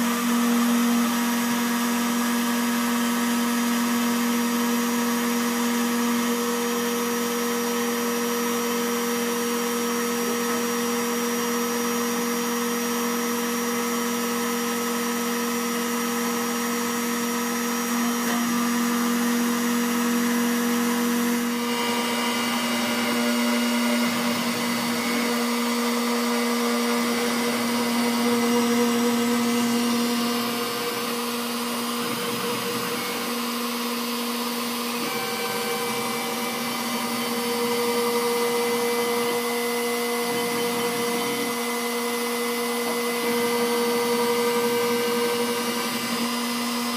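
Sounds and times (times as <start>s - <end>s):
spindle motor whine: 0.0s - 46.9s.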